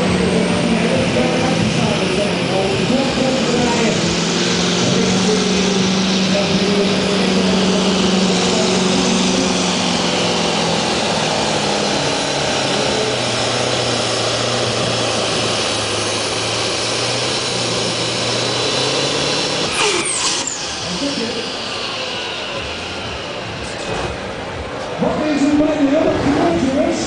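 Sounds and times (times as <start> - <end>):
diesel truck engine at full throttle: 0.0 - 27.0.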